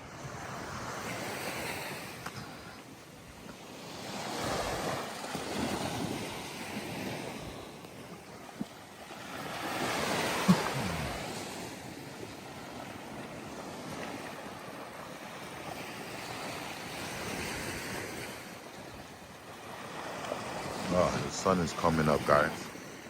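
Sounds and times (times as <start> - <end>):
waves washing up a beach: 0.0 - 23.0.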